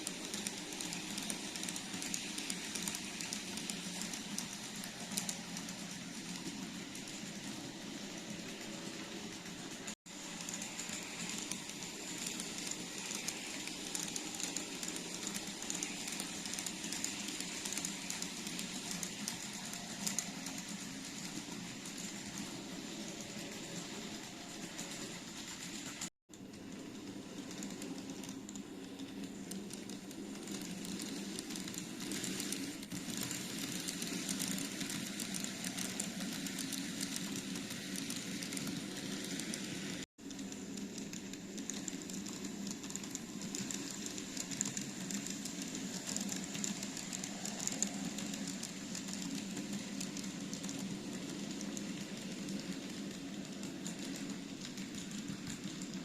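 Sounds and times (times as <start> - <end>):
model train whirring on track: 0.0 - 56.0.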